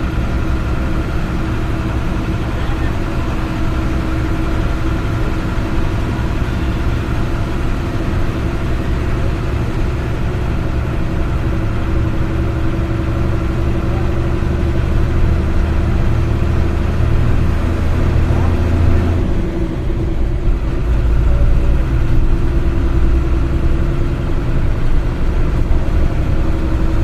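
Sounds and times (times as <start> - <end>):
bus passing close: 0.0 - 27.0
vehicle engine running: 0.0 - 27.0.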